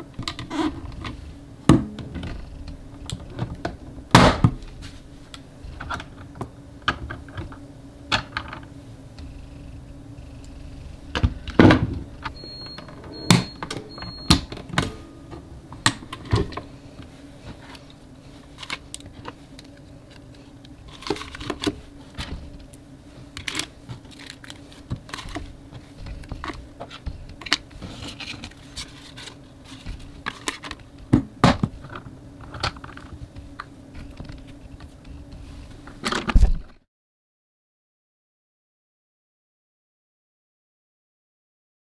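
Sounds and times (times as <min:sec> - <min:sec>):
low hum: 0:00.0 - 0:35.7.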